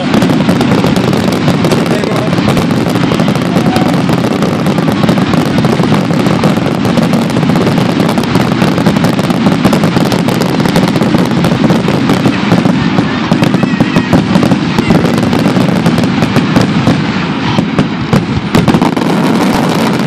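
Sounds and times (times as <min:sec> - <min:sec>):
fireworks crackling and booming: 0:00.0 - 0:20.0.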